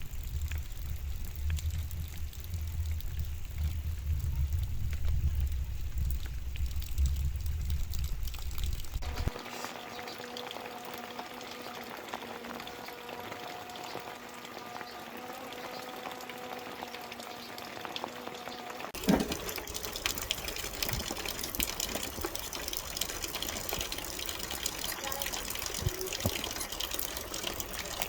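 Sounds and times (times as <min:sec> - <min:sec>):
heavy rain pouring and splashing: 0:00.0 - 0:28.0
raindrops ticking: 0:00.0 - 0:28.0.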